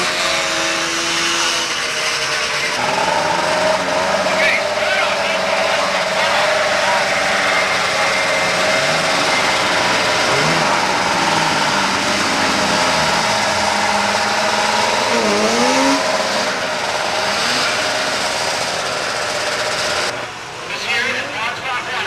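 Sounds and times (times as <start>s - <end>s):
snowmobile engines revving: 0.0s - 20.2s.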